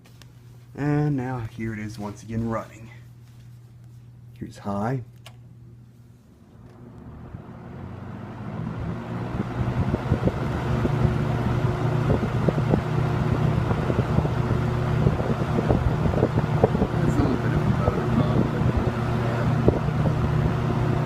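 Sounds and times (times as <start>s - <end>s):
box fan whirring: 0.0s - 21.0s.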